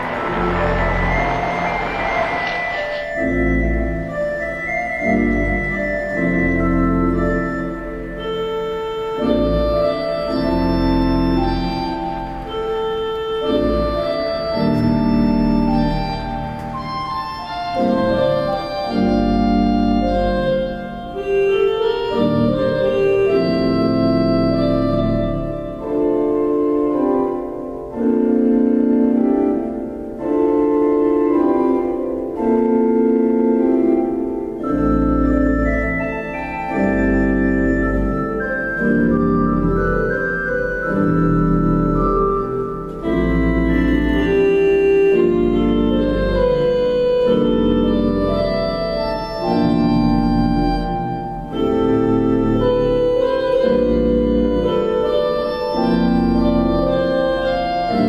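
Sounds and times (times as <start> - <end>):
organ chords: 0.0 - 58.0.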